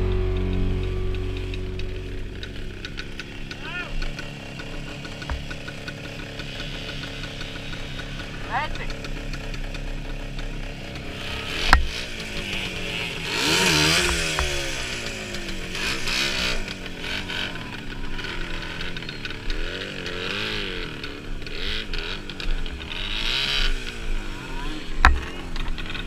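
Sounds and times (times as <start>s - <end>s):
scooter engines revving: 0.0s - 26.0s.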